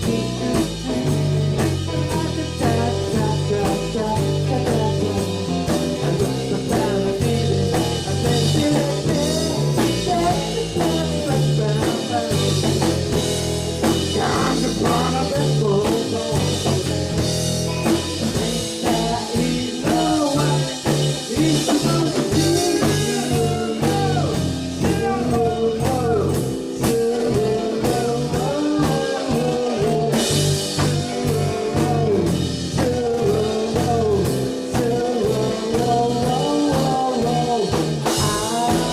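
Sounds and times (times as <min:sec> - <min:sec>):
live blues-rock band playing: 0:00.0 - 0:38.9.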